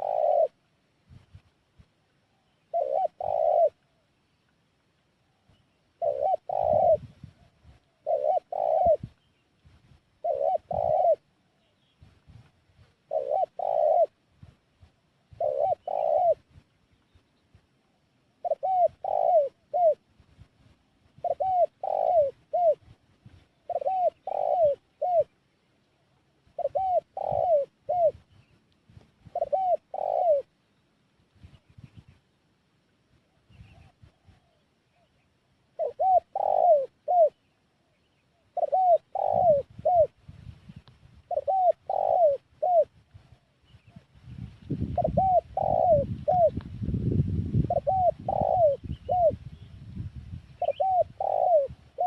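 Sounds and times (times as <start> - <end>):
dove cooing: 0.0 - 0.7, 2.3 - 4.1, 5.4 - 9.4, 10.2 - 16.6, 17.9 - 20.1, 21.1 - 28.6, 29.2 - 30.6, 33.2 - 49.8, 50.5 - 52.0.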